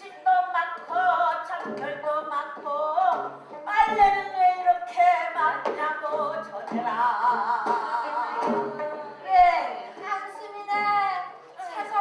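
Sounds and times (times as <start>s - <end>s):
person singing folk-style: 0.0s - 12.0s
instrumental accompaniment: 0.1s - 11.6s.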